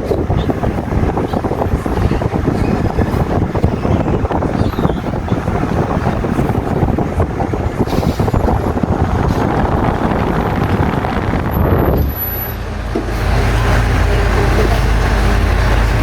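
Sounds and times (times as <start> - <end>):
fan airflow buffeting microphone: 0.0 - 16.0
low fan hum: 0.0 - 16.0.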